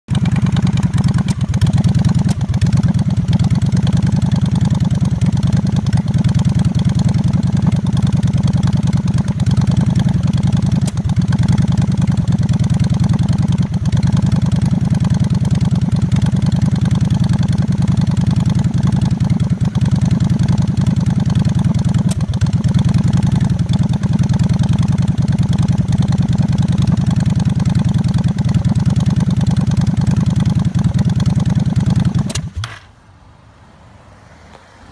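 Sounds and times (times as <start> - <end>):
motorcycle engine idling: 0.1 - 33.0.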